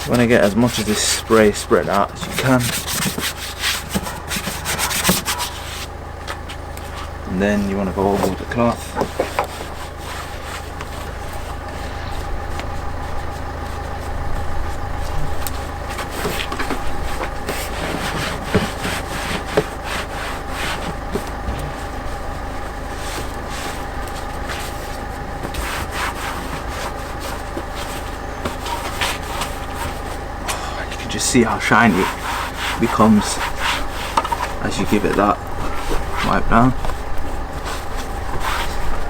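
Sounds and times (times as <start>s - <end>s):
cloth wiping surfaces: 0.0s - 39.0s
steady low hum: 0.0s - 39.0s.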